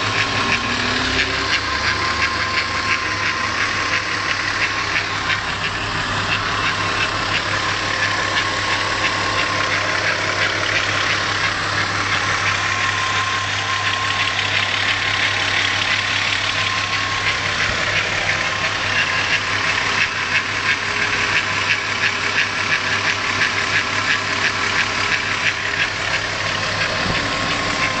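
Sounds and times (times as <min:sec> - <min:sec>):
car engine idling: 0:00.0 - 0:28.0
fast even ticking: 0:00.1 - 0:28.0.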